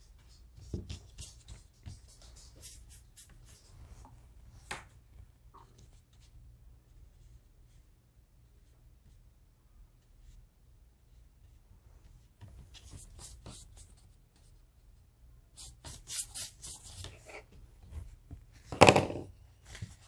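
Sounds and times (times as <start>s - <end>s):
paintbrush strokes on paper: 0.0s - 18.6s.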